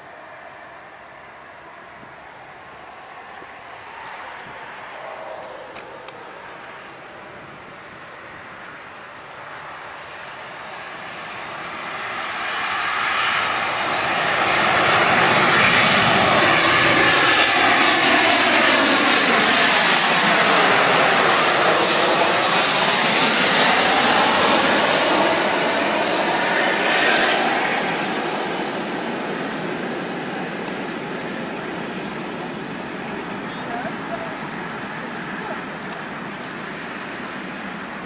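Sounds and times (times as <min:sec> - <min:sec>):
jet airliner passing by: 0:00.0 - 0:38.0.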